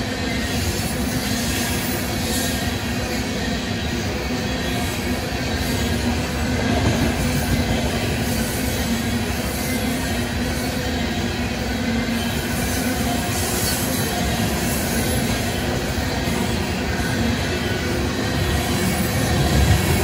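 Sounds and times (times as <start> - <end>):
freight train wheels rumbling on rails: 0.0 - 20.0.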